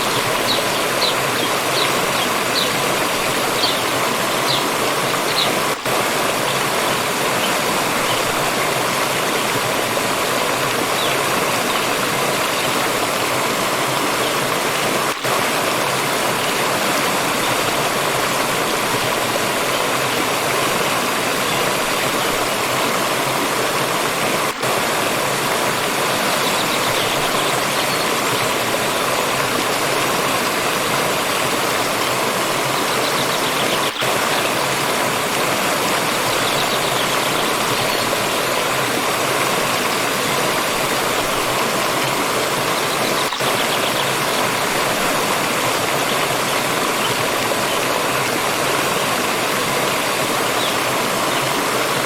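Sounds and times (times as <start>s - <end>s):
water stream flowing and splashing: 0.0s - 52.0s.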